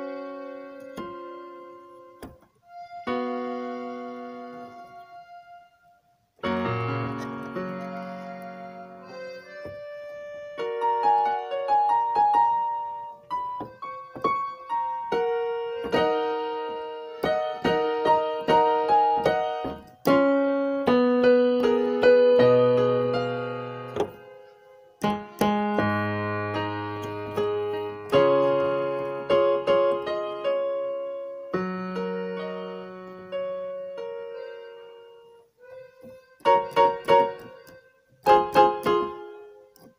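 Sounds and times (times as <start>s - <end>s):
piano music: 0.0s - 39.9s.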